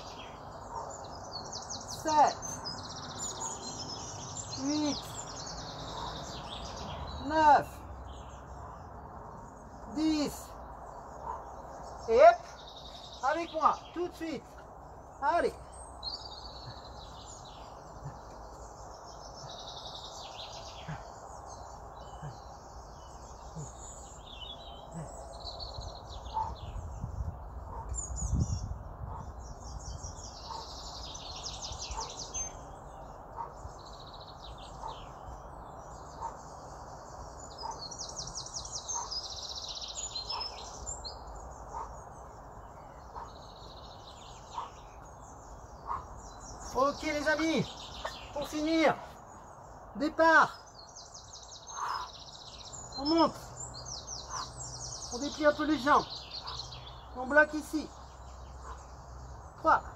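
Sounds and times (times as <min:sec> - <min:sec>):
songbirds singing and trilling: 0:00.0 - 0:59.9.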